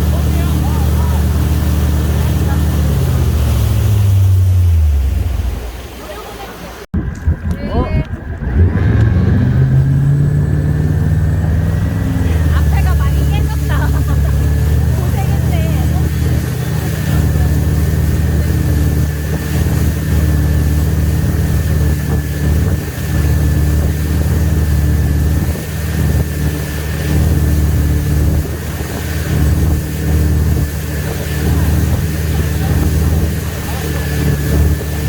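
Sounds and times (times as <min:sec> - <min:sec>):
boat engine low drone: 0:00.0 - 0:35.0.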